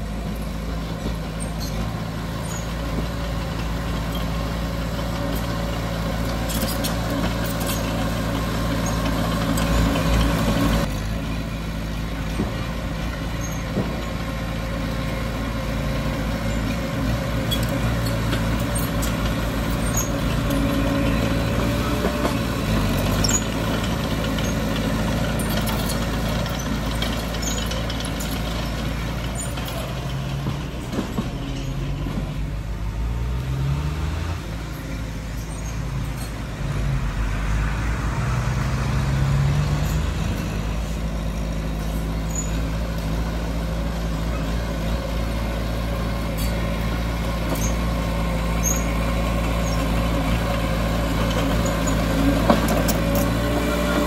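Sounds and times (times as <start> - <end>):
diesel earthmoving machinery running: 0.0 - 54.0.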